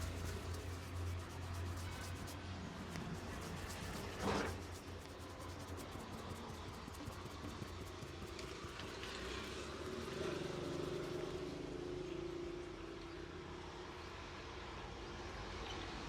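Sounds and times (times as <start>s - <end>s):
vehicle engine running close by: 0.0s - 13.1s
street traffic: 0.0s - 16.0s.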